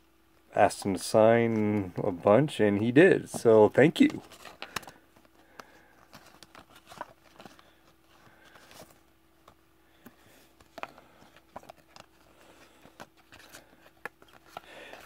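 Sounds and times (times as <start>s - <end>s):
low steady hum: 0.0s - 15.0s
cards being shuffled: 1.4s - 15.0s.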